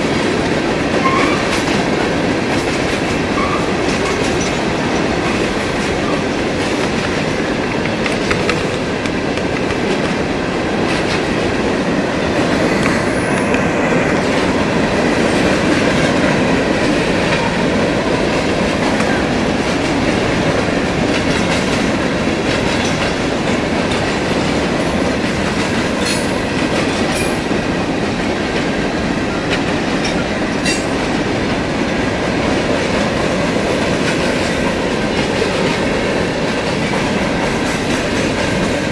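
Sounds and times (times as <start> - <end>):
freight train cars rolling: 0.0 - 38.9.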